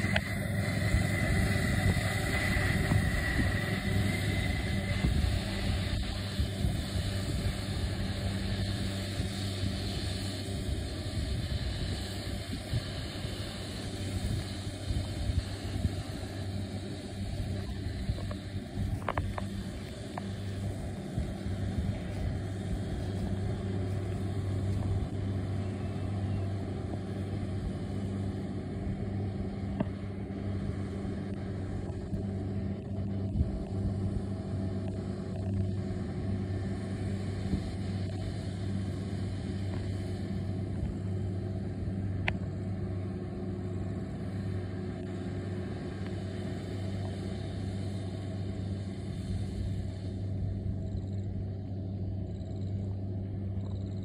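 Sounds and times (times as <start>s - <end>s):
round baler working: 0.0s - 54.0s
tractor engine drone: 0.0s - 54.0s.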